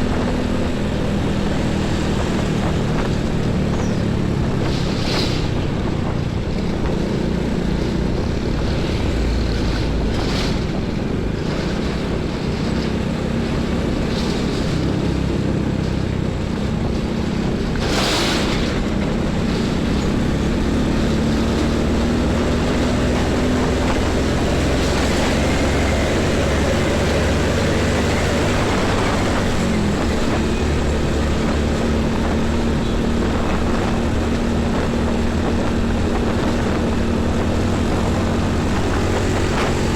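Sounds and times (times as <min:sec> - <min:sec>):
road rumble: 0:00.0 - 0:39.9
truck and bus engines passing: 0:00.0 - 0:39.9.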